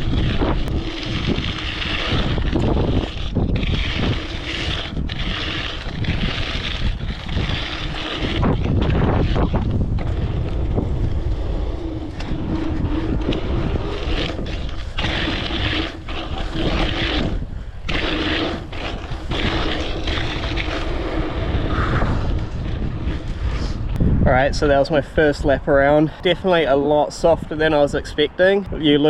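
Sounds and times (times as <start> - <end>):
tyres rolling noise: 0.0 - 28.2
wind buffeting microphone: 0.0 - 29.0.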